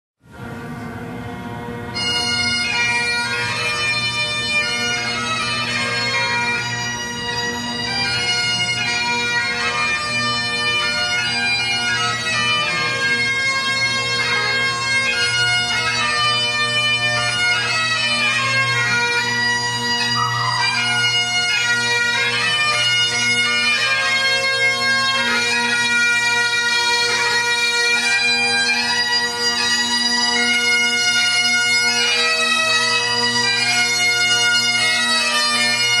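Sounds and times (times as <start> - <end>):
bagpipes playing: 0.6 - 36.0.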